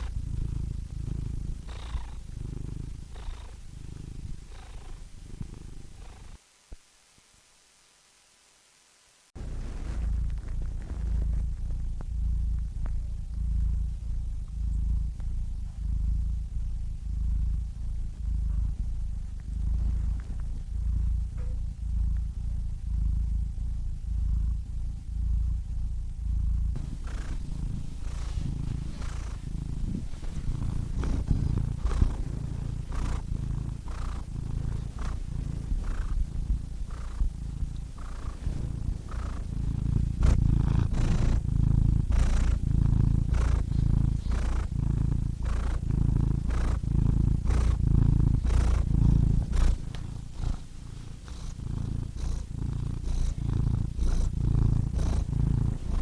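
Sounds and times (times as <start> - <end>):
cat purring: 0.0 - 6.8, 9.3 - 56.0.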